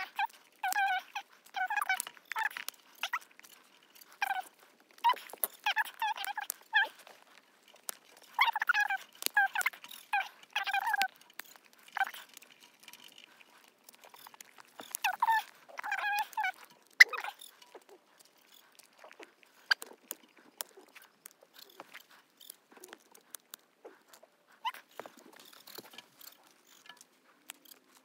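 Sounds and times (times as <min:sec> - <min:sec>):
high-pitched animal calls: 0:00.0 - 0:12.4, 0:13.3 - 0:27.7
hoof trimmers snipping: 0:00.0 - 0:28.0.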